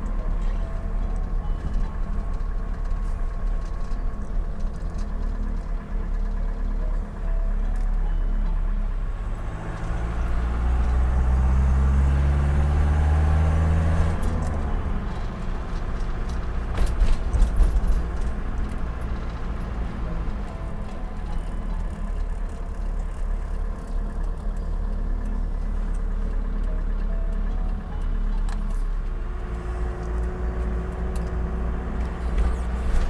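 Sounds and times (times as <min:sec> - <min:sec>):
road noise: 0:00.0 - 0:33.0
van engine: 0:00.0 - 0:33.0.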